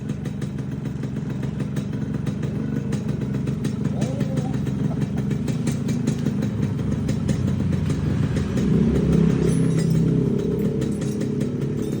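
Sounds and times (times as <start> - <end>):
motorcycle engine running low revs: 0.0 - 12.0.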